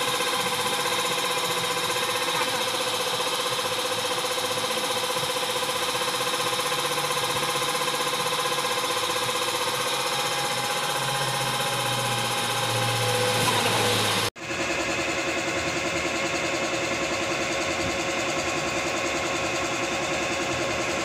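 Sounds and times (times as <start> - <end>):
motor running steadily: 0.0 - 21.0.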